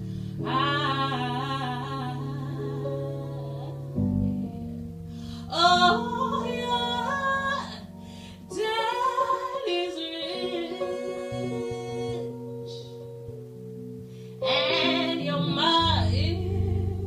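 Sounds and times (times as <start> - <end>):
woman singing jazz ballad: 0.0 - 4.5, 5.2 - 13.5, 14.4 - 17.0
piano and bass chords: 0.0 - 17.0.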